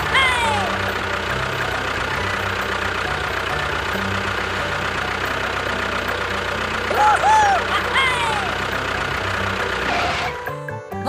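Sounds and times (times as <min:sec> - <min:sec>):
engine idling with knocking: 0:00.0 - 0:10.9.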